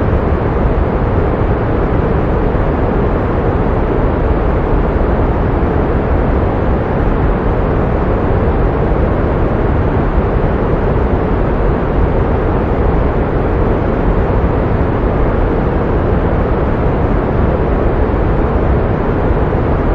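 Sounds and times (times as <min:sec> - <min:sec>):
pink noise hiss: 0:00.0 - 0:19.9.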